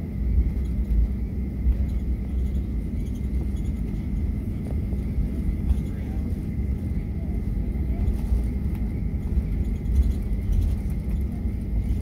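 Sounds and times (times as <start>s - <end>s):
aircraft engines rumbling: 0.0s - 12.0s
faint steady hum: 0.0s - 12.0s
wheels rolling on taxiway: 0.0s - 12.0s.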